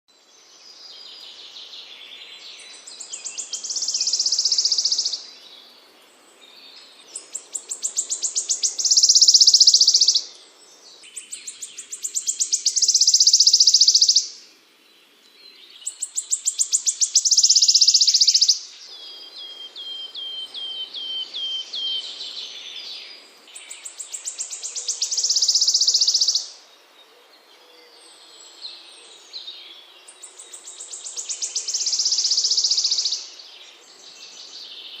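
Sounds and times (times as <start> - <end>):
songbird singing buzzy trills: 0.1 - 35.0.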